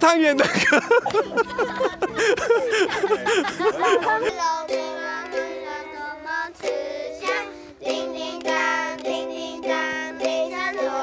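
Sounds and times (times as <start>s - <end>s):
ukulele strumming chords: 0.5s - 11.0s.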